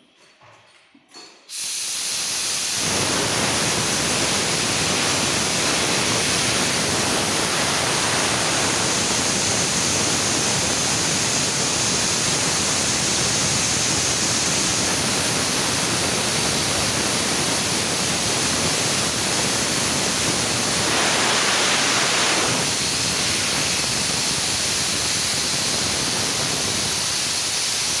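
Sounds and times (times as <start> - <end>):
air compressor running: 1.5 - 28.0
loud air hiss: 1.5 - 28.0.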